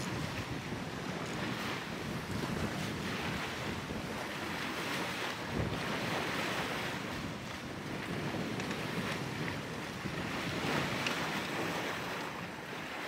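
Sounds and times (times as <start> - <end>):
sea water rushing along hulls: 0.0 - 13.0
wind buffeting microphone: 0.0 - 13.0.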